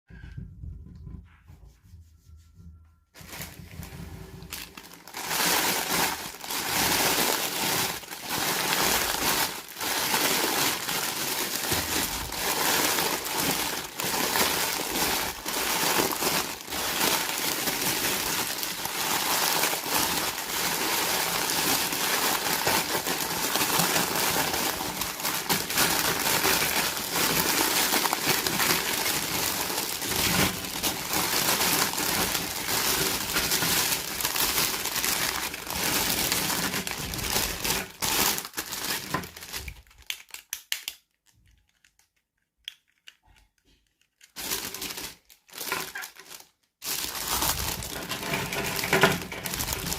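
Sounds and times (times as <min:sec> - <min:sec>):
plastic packaging crinkling: 0:03.2 - 0:49.9.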